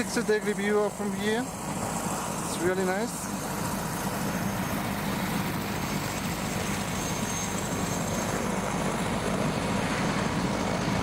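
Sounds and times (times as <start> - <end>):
helicopter rotors turning: 0.0 - 11.0.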